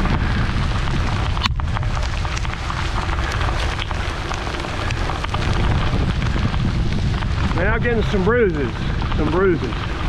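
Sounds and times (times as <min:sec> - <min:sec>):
hailstones striking: 0:00.0 - 0:10.0
wind buffeting the microphone: 0:00.0 - 0:10.0.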